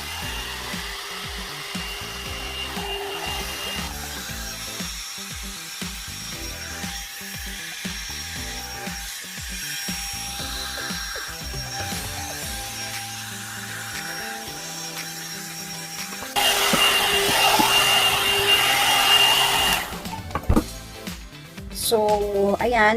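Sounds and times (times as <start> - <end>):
hair dryer whirring: 0.0 - 20.4
background music: 0.0 - 22.9.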